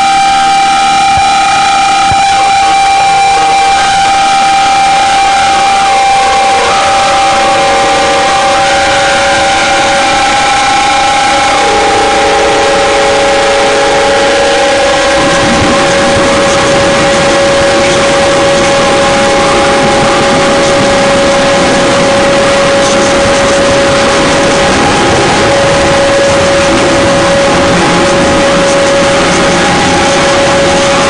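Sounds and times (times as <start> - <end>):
harsh noise drone music: 0.0 - 31.0
long held tones: 0.0 - 31.0
short held tones: 0.0 - 31.0.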